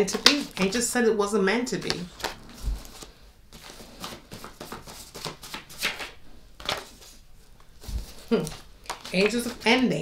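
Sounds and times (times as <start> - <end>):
cards tapping and rustling: 0.0 - 0.8, 1.7 - 9.9.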